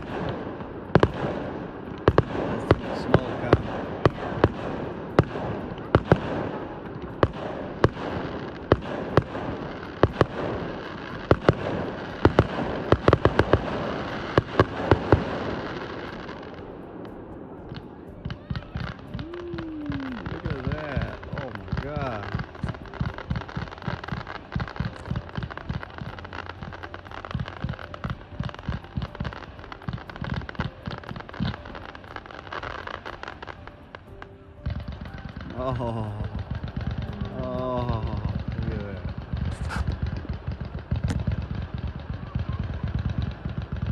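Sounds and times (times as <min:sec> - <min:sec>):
fireworks bursting bangs: 0:00.0 - 0:43.9
wash of fireworks noise: 0:00.0 - 0:43.9.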